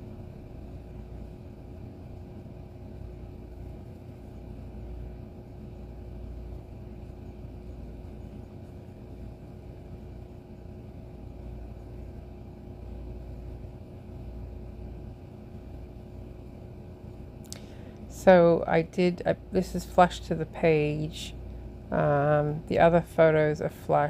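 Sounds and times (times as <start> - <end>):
faint constant tone: 0.0 - 24.0
low background hum: 0.0 - 24.0.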